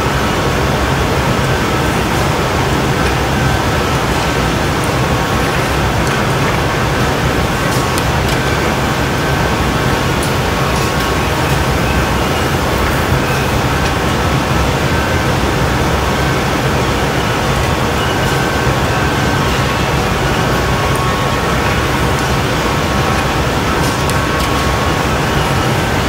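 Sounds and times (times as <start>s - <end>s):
gas burners and blowers roaring: 0.0s - 26.0s.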